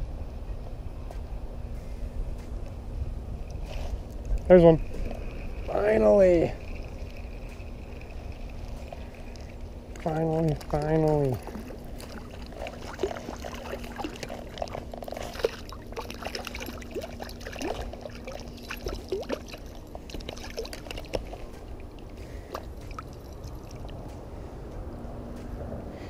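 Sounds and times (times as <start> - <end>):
water splashing and trickling: 3.5 - 24.5.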